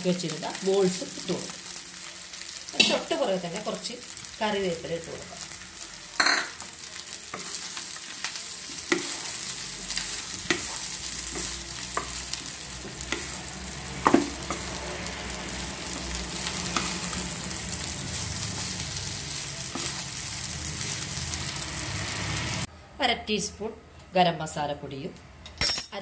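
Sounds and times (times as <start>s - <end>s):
food sizzling in oil: 0.0s - 22.7s.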